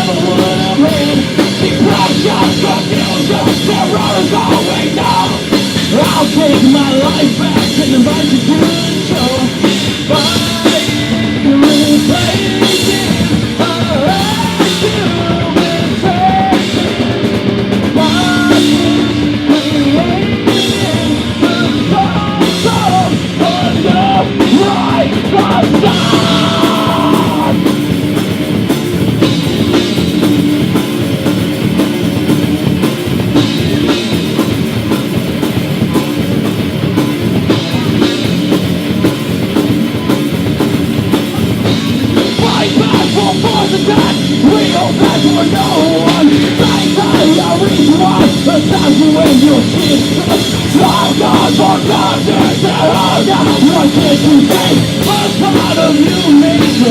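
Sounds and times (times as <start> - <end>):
bending guitar lead line: 0.0 - 56.9
rock band playing loud: 0.0 - 56.9.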